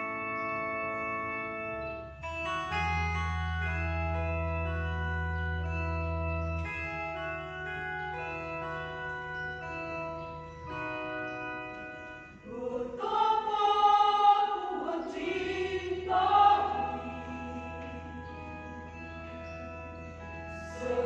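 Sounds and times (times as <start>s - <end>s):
church choir singing: 0.0s - 21.0s
electric organ chords: 0.0s - 21.0s.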